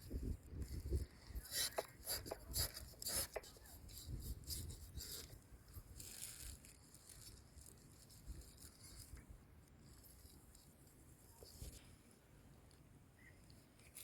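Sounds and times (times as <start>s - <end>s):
faint rustle: 0.0s - 14.0s.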